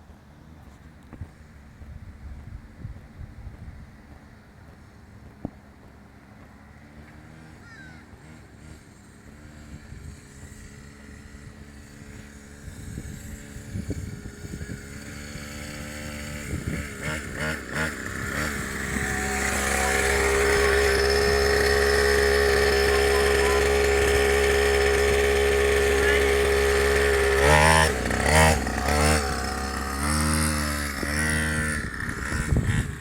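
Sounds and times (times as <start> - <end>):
dirt bike engine running: 2.1 - 33.0.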